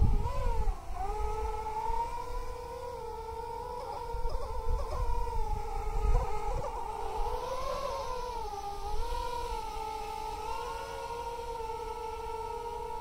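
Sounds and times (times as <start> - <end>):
drone motors whining: 0.0 - 13.0
wind rumble on microphone: 0.0 - 13.0.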